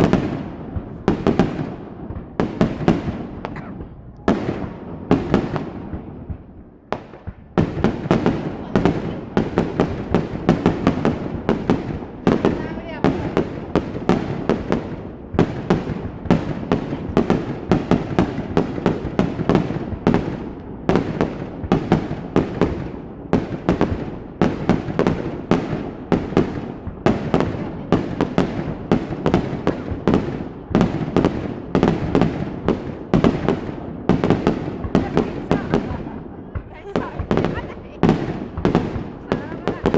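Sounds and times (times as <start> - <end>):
echoing rumble of bursts: 0.0 - 39.9
fireworks bangs: 0.0 - 39.9.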